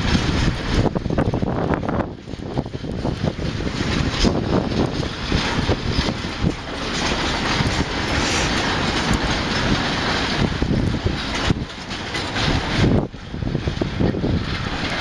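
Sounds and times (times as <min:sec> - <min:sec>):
freight train rolling: 0:00.0 - 0:15.0
wheels clacking over rail joints: 0:00.0 - 0:15.0.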